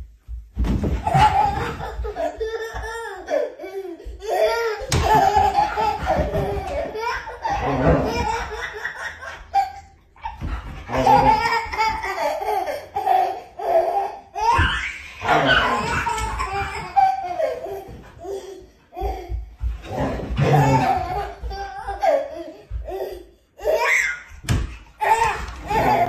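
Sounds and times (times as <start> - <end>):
toddler belly laughing: 1.0 - 26.0.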